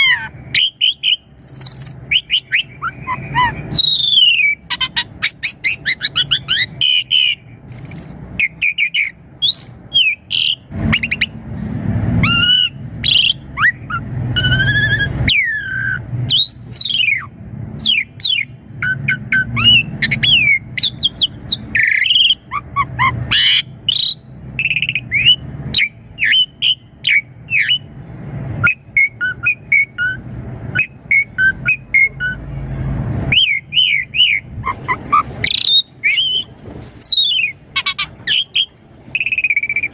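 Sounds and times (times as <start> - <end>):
starling singing whistled song: 0.0 - 11.4, 12.2 - 28.0, 28.6 - 32.6, 33.3 - 39.9.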